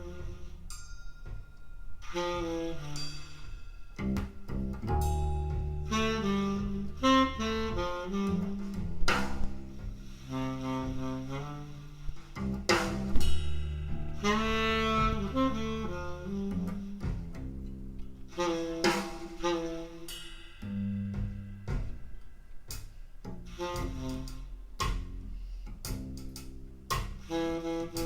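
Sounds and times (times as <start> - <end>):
saxophone melody: 0.0 - 1.4, 2.0 - 13.1, 13.9 - 21.0, 23.4 - 28.0
double bass line: 0.0 - 28.0.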